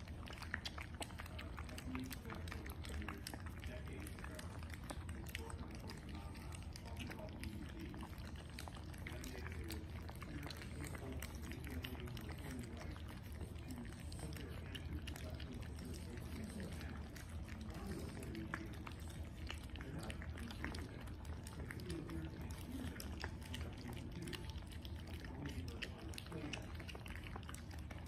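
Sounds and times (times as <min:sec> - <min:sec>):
puppies eating and smacking: 0:00.0 - 0:28.0.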